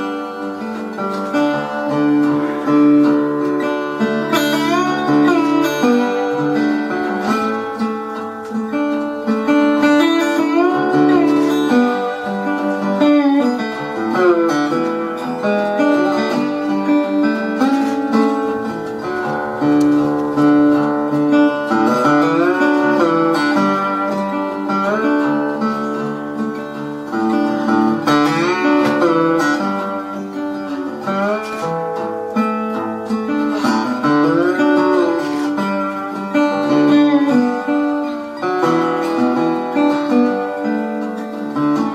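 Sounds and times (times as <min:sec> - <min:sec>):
acoustic guitar sliding notes: 0:00.0 - 0:41.9.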